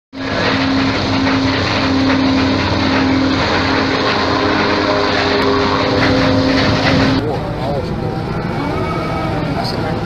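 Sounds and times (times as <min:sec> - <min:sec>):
helicopter engine and rotor drone: 0:00.2 - 0:08.8.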